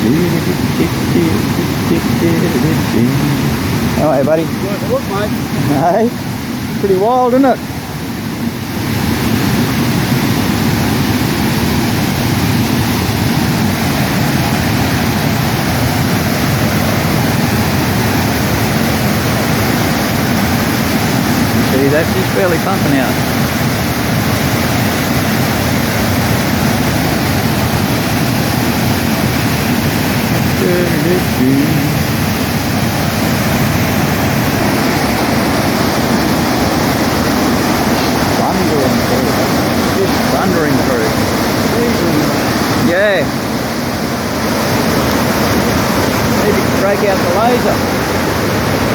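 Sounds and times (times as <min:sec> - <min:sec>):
floodwater rushing through dam: 0:00.0 - 0:48.9.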